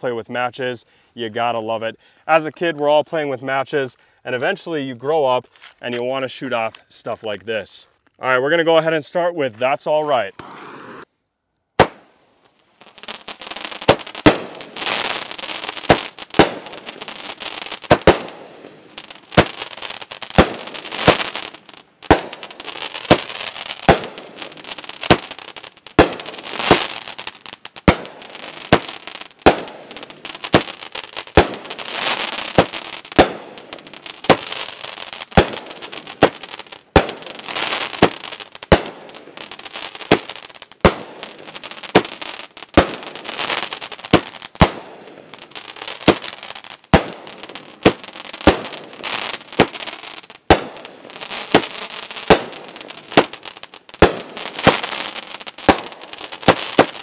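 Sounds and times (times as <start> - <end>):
firework bangs: 10.3 - 11.1, 11.8 - 57.0
hiss of burning fireworks: 10.3 - 11.1, 11.8 - 57.0.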